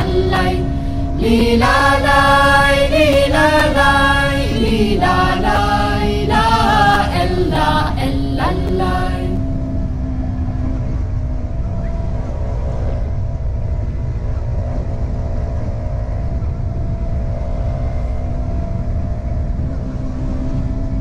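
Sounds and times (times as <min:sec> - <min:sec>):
motorcycle engine cruising: 0:00.0 - 0:21.0
wind rushing over microphone: 0:00.0 - 0:21.0.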